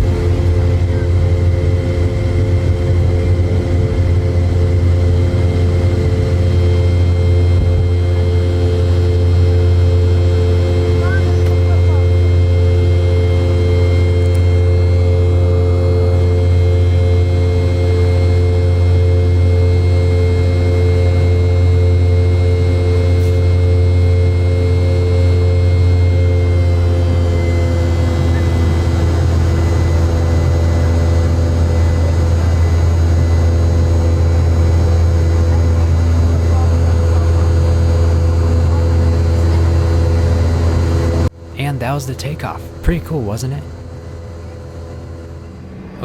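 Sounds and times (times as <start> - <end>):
jet engine rumble and whine: 0.0 - 46.0.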